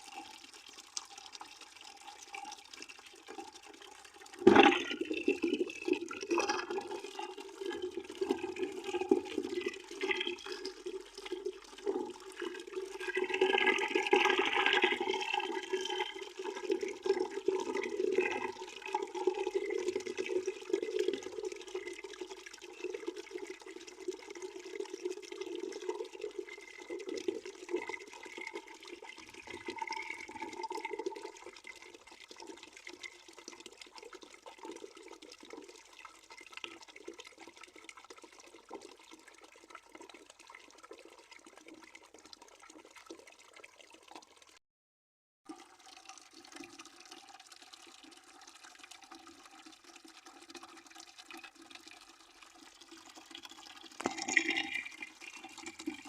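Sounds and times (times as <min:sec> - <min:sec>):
water splashing into a bucket: 0:00.0 - 0:44.6, 0:45.5 - 0:56.0.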